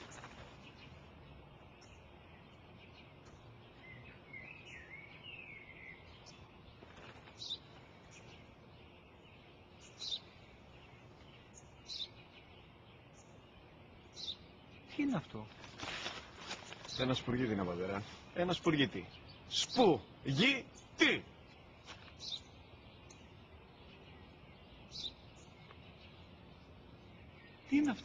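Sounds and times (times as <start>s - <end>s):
birds chirping: 0.0s - 28.0s
low outdoor hiss: 0.0s - 28.0s.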